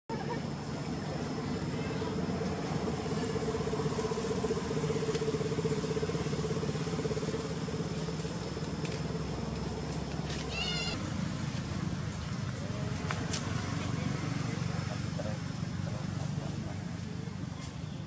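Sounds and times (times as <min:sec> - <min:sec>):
engine drone: 0:00.1 - 0:18.0.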